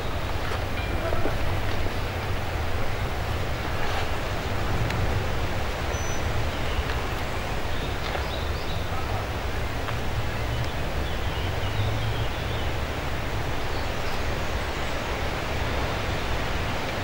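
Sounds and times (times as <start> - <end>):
leaves rustling: 0.0 - 17.0
wind rumble on microphone: 0.0 - 17.0.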